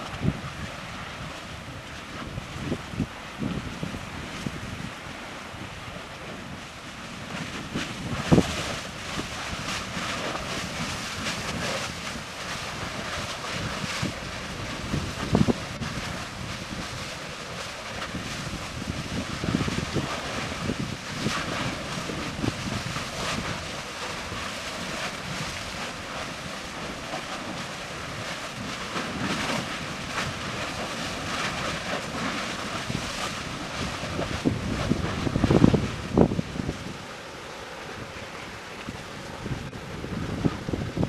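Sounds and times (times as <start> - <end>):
wind buffeting microphone: 0.0 - 37.1, 37.9 - 41.0
lava rushing and splashing: 0.0 - 41.0.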